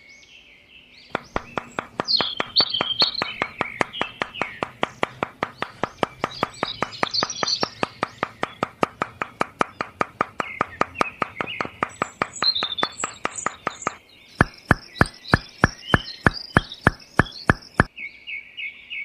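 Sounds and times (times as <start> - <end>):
birds chirping: 0.0 - 19.0
steady even clicking: 1.1 - 17.9.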